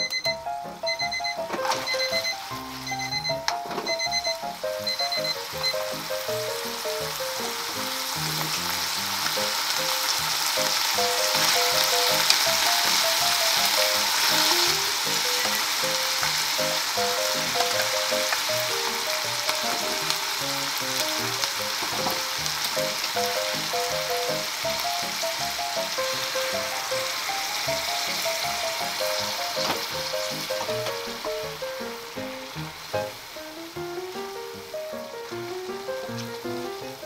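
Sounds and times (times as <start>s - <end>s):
light background music: 0.0s - 37.0s
oil sizzling in frying pan: 0.0s - 37.0s.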